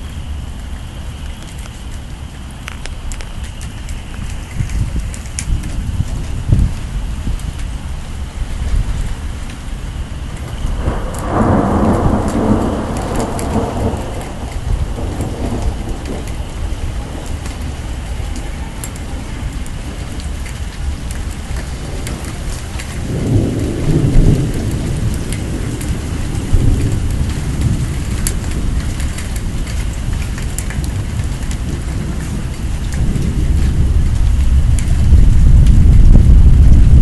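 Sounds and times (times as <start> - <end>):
heavy rain pattering: 0.0 - 37.0
deep rumbles of thunder: 3.3 - 37.0.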